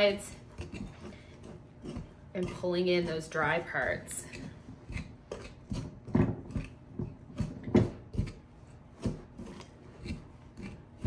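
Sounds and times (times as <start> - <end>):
dough stirred in mixing bowl: 0.0 - 11.0.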